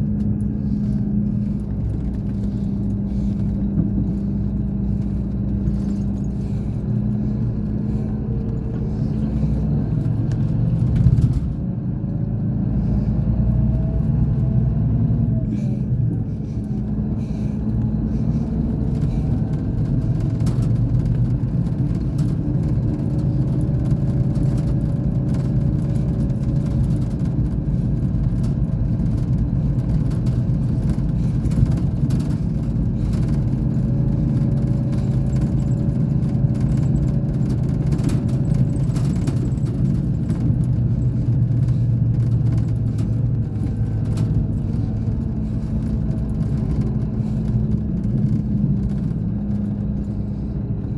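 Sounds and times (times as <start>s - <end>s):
bus engine drone: 0.0s - 50.9s
light clicks and rattles: 0.2s - 11.6s, 15.4s - 50.9s.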